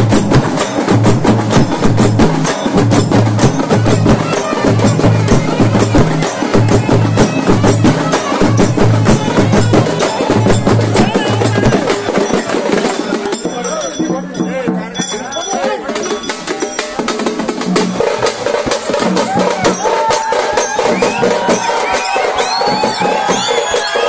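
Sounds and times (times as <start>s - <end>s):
traditional percussion music: 0.0s - 24.0s.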